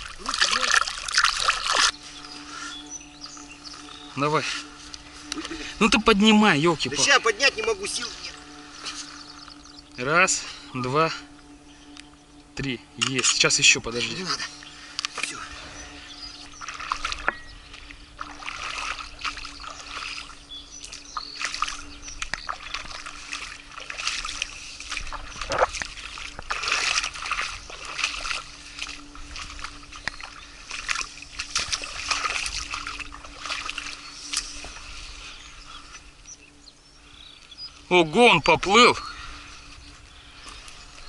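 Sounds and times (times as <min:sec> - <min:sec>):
water splashing and sloshing: 0:00.0 - 0:41.0.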